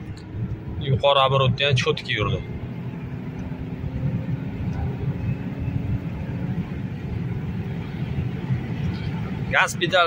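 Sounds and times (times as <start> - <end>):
low engine drone inside car: 0.0 - 10.0.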